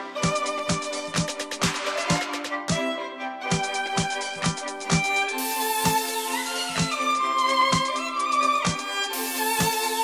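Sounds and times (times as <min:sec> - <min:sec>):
violin melody over beat: 0:00.0 - 0:10.0.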